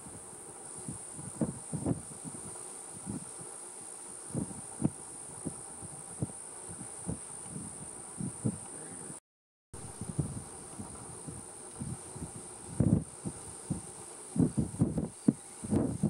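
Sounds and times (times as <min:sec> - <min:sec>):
insect chorus: 0:00.0 - 0:09.2, 0:09.8 - 0:16.0.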